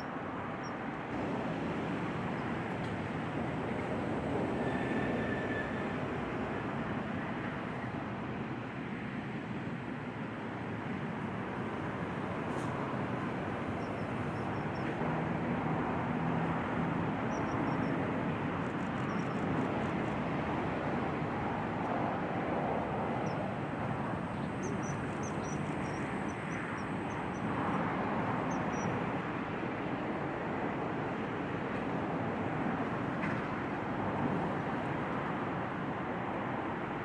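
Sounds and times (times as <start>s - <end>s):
steady rushing noise: 0.0s - 5.2s, 6.0s - 37.0s.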